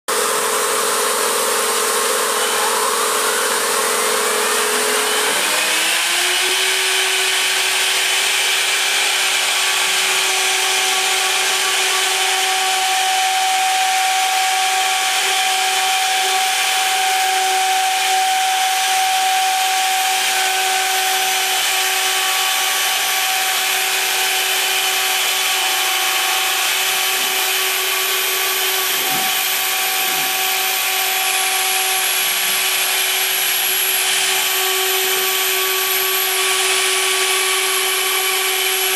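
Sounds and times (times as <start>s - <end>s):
engraving machine spindle whine: 0.1s - 38.9s.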